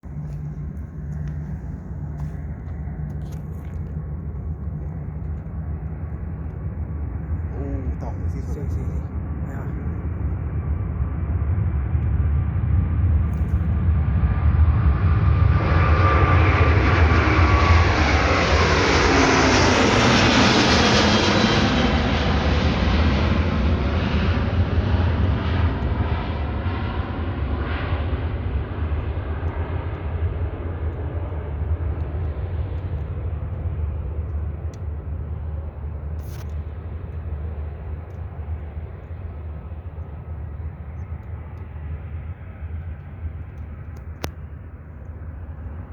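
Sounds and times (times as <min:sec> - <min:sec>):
jet engines roaring: 0:00.0 - 0:45.9
jet whine gliding down: 0:00.0 - 0:45.9.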